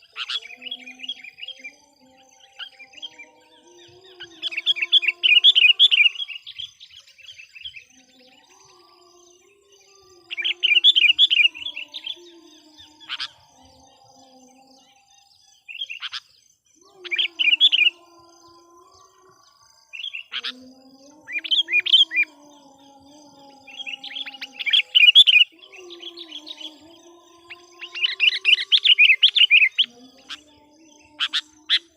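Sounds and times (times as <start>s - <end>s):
bulbul bird singing: 0.0s - 31.9s.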